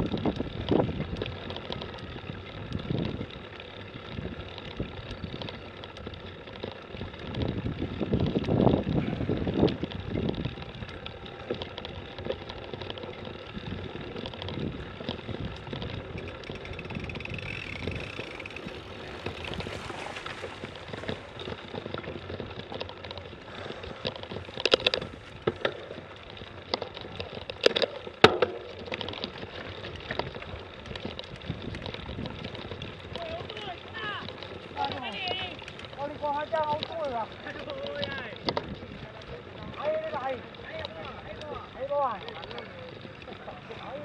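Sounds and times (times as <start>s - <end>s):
bike rattling on dirt trail: 0.0s - 44.0s.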